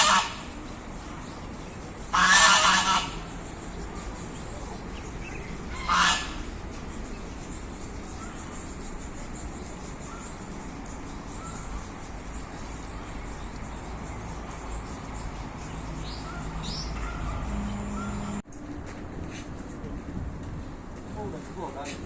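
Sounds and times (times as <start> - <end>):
birds calling: 0.0 - 18.4.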